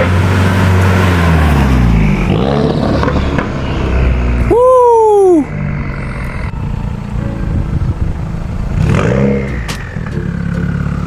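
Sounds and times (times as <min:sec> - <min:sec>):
car engine idling: 0:00.0 - 0:11.0
engine revving: 0:00.0 - 0:11.0.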